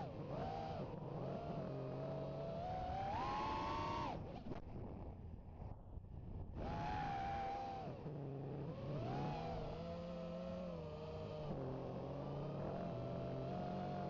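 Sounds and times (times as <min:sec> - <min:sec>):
drone motors whining: 0:00.0 - 0:04.2, 0:06.6 - 0:14.0.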